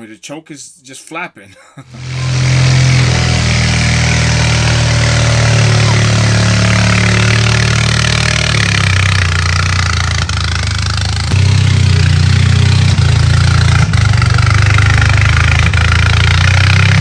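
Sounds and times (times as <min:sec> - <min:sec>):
skid steer engine running: 0:02.0 - 0:17.0.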